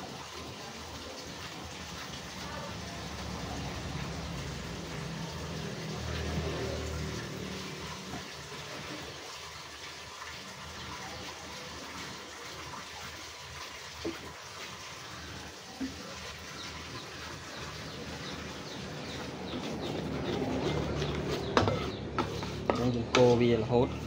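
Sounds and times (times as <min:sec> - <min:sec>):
oil sizzling in a wok: 0:00.0 - 0:24.0.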